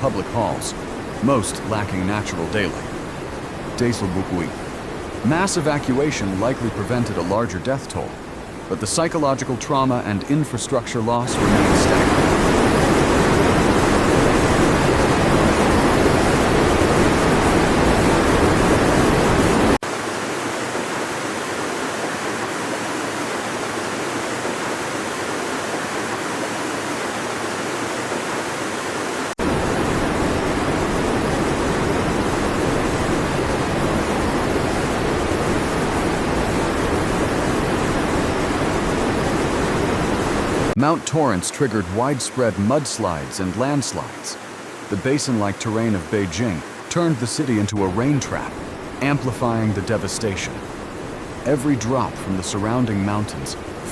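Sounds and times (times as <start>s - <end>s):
water rushing: 0.0s - 53.9s.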